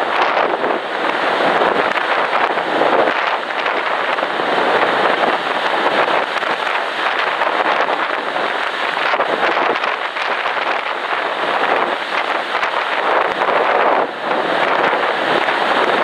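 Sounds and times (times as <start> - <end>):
sea: 0.0 - 16.0
wind rushing: 0.0 - 16.0.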